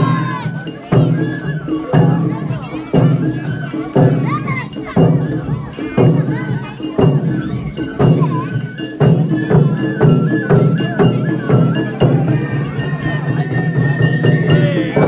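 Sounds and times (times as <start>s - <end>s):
bamboo flute melody: 0.0s - 15.0s
drum strikes: 0.0s - 15.0s
metal percussion: 0.0s - 15.0s.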